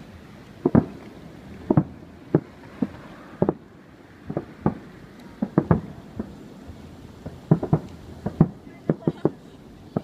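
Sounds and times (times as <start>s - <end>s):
distant firework booms: 0.6s - 10.0s.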